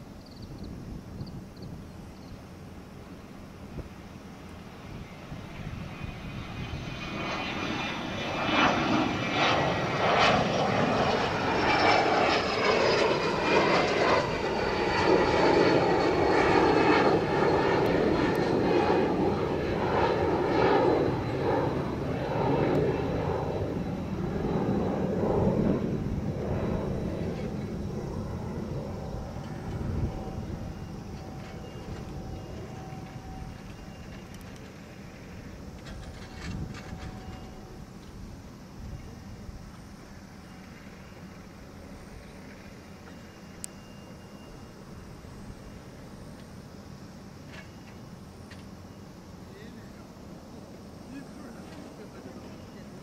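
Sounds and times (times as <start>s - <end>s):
jet flying past: 0.2s - 53.0s.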